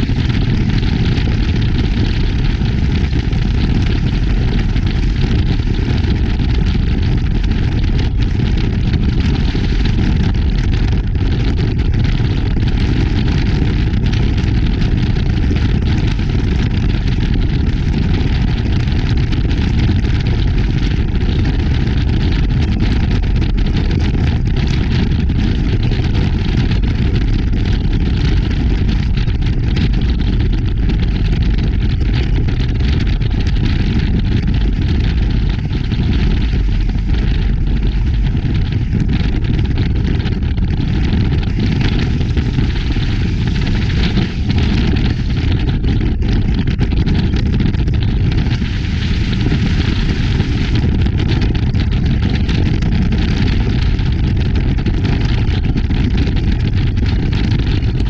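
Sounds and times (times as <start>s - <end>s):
powerboat engine drone: 0.0s - 31.8s, 32.5s - 52.8s
wind rumble on microphone: 0.0s - 58.0s.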